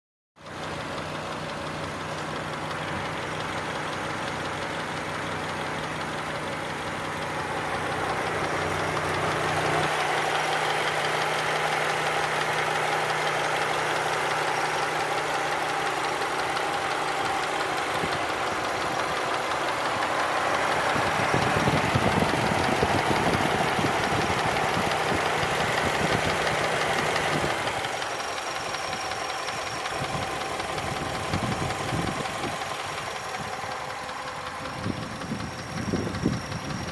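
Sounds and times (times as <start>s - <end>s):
car engine running: 0.4s - 36.9s
engine knocking: 0.4s - 36.9s.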